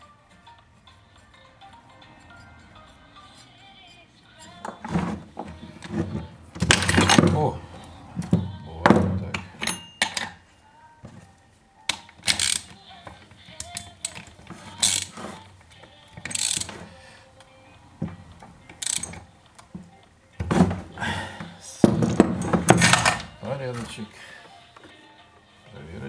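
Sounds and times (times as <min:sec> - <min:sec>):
tools clicking and scraping on metal: 0:00.0 - 0:25.0.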